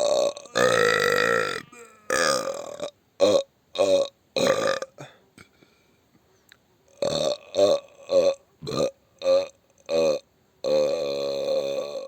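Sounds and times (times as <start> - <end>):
person burping: 0.0 - 5.5, 7.0 - 12.0.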